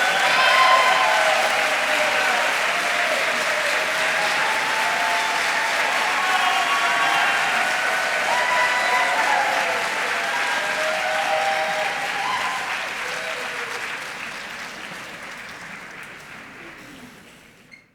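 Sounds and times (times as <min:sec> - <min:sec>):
audience applauding: 0:00.0 - 0:17.8.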